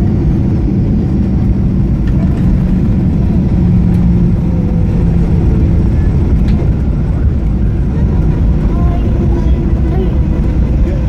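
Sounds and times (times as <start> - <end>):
airplane rumble on runway: 0.0 - 11.0
steady low hum: 0.0 - 11.0.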